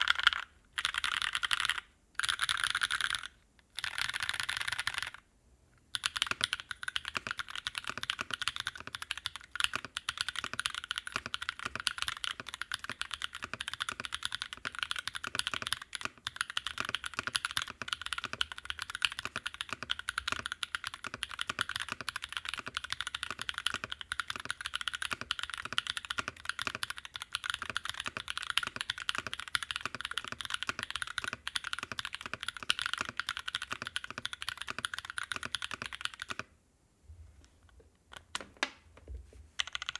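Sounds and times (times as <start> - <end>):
fast typing on mechanical keyboard: 0.0 - 5.2, 5.9 - 36.5, 39.6 - 39.9.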